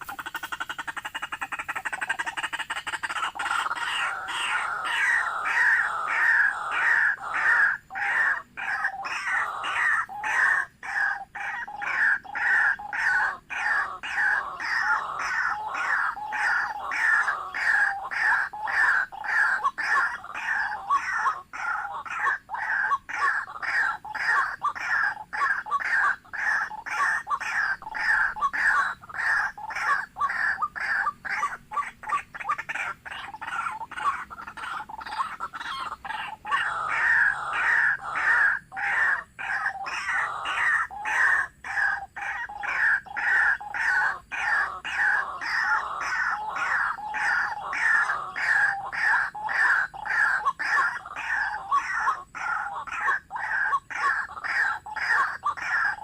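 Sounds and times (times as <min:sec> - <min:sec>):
bird calling harsh notes: 0:00.0 - 0:56.0.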